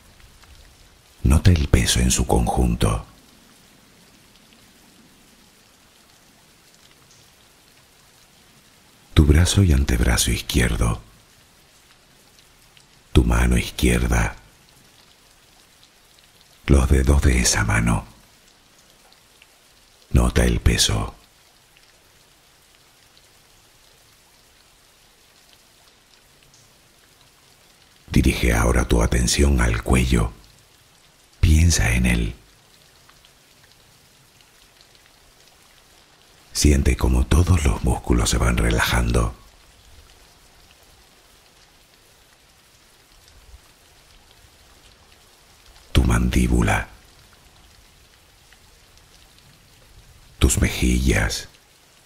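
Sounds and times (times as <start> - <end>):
faint steady rainfall: 0.0 - 52.0.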